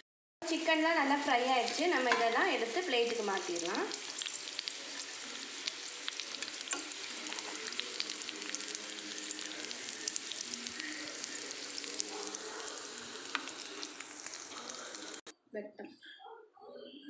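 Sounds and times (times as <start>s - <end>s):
oil sizzling in a pan: 0.4s - 15.3s
oil crackling and popping: 1.0s - 15.3s.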